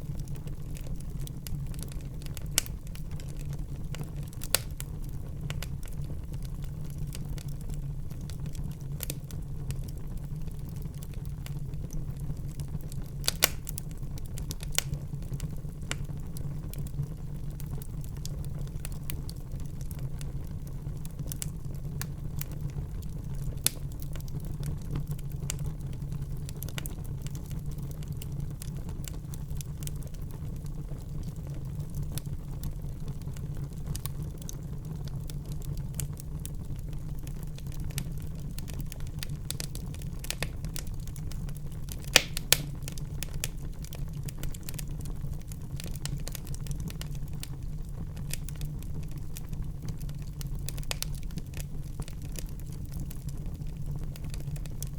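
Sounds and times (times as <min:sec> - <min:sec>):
low fire rumble: 0:00.0 - 0:54.9
wood fire crackling and popping: 0:00.0 - 0:54.9.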